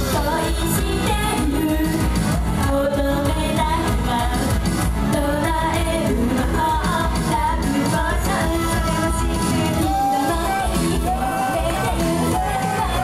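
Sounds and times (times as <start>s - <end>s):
group singing pop song: 0.0s - 13.0s
music with steady beat: 0.0s - 13.0s.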